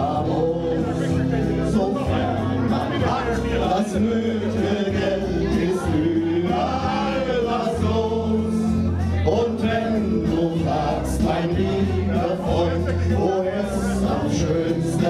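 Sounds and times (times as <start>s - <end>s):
backing music: 0.0s - 15.0s
group singing in chorus: 0.0s - 15.0s.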